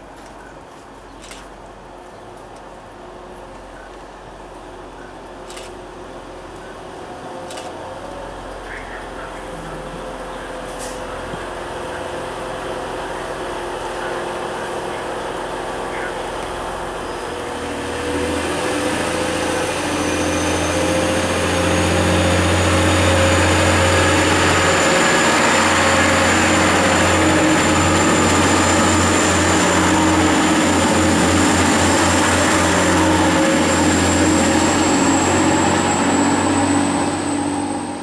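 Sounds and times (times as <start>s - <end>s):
diesel train engines accelerating: 1.3s - 38.0s
rising engine whine: 7.3s - 38.0s.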